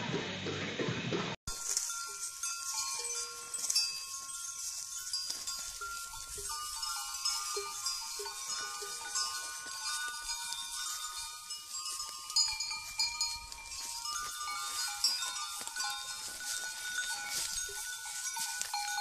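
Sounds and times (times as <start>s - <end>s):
goat bells clinking: 1.5s - 19.0s.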